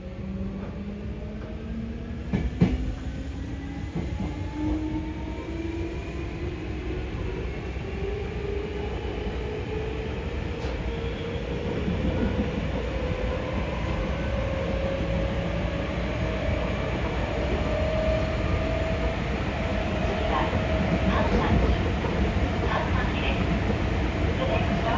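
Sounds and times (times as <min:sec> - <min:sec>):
train wheels rumbling on rails: 0:00.3 - 0:24.9.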